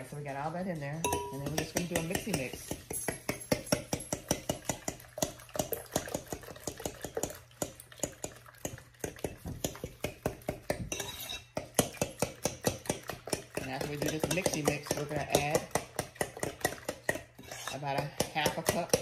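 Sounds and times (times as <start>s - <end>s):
fork beating eggs in glass bowl: 0.0s - 19.0s.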